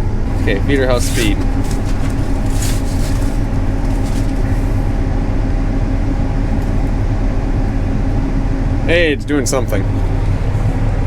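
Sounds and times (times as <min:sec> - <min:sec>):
combine harvester droning: 0:00.0 - 0:11.0.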